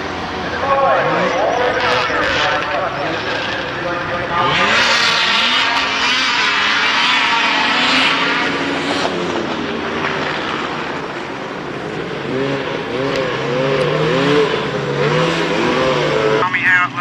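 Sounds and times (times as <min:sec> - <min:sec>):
large engine running loud: 0:00.0 - 0:17.0.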